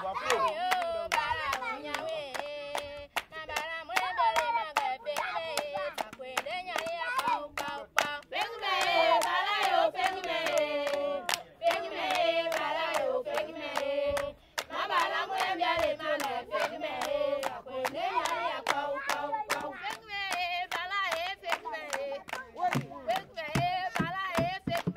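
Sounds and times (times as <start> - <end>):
group singing in unison: 0.0 - 24.9
rhythmic hand-clapping: 0.0 - 24.9.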